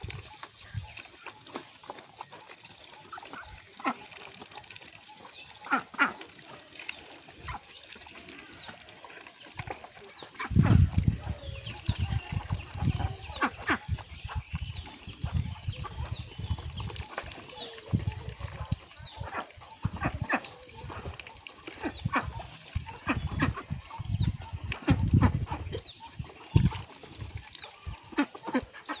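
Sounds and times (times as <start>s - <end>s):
chickens and ducks clucking: 0.0s - 29.0s.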